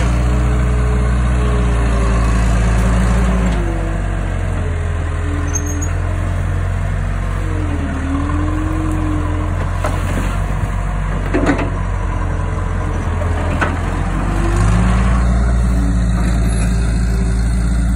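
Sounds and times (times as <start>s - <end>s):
diesel engine running under load: 0.0s - 17.9s.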